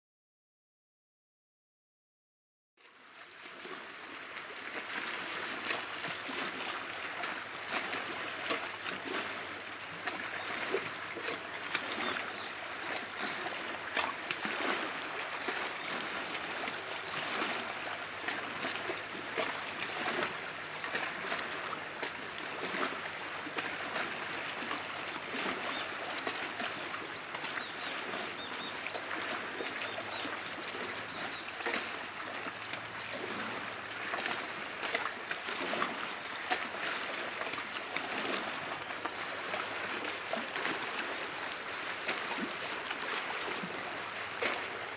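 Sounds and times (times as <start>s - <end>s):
small waves lapping: 2.8s - 44.9s.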